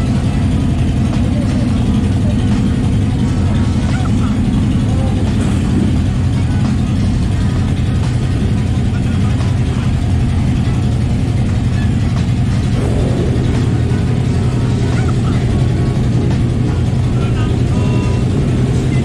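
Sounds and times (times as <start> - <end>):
faint voices: 0.0 - 19.0
ship engines droning: 0.0 - 19.0.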